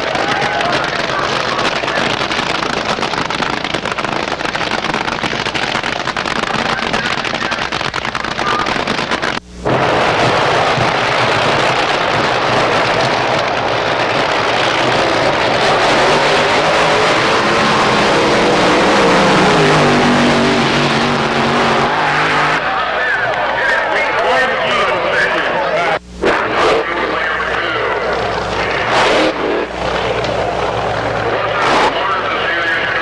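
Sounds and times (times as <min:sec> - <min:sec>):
drag racing car engines: 0:00.0 - 0:33.0.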